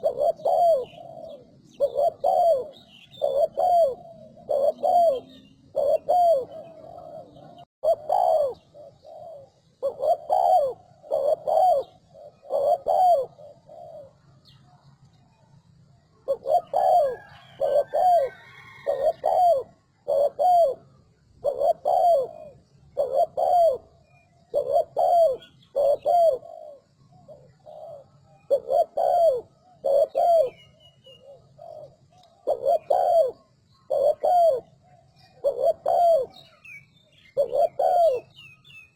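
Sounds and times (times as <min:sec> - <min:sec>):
dove cooing: 0:00.0 - 0:14.8, 0:16.0 - 0:38.9.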